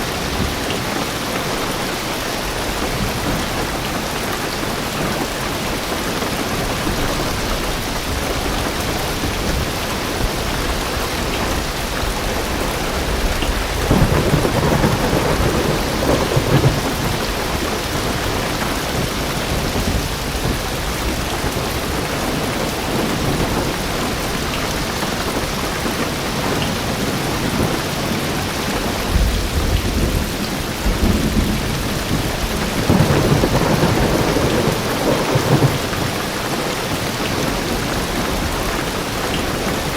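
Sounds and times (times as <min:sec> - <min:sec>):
heavy rain on car roof: 0:00.0 - 0:39.9
thunder rumbling: 0:00.0 - 0:39.9.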